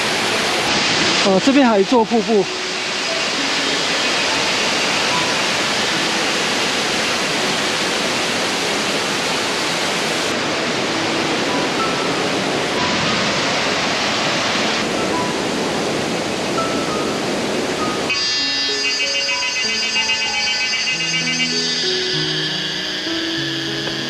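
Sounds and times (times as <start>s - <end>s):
waterfall and stream rushing: 0.0s - 24.0s.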